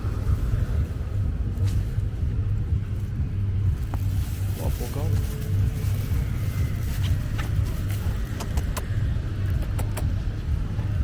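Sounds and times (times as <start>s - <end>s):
motor traffic rumble: 0.0s - 11.0s.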